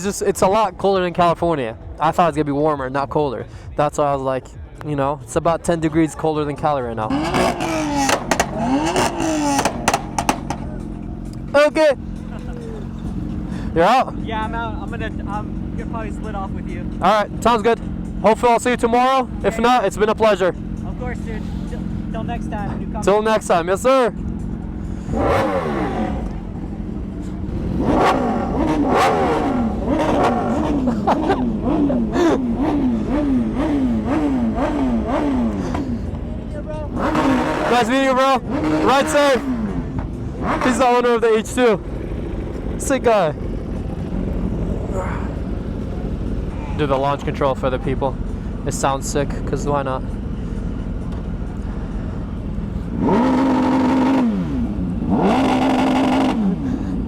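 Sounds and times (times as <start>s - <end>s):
engine revving: 6.6s - 57.0s.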